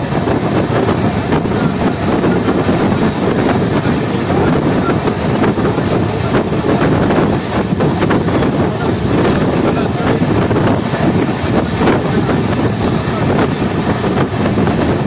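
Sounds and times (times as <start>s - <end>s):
train running noise: 0.0s - 15.0s
wind on microphone: 0.0s - 15.0s.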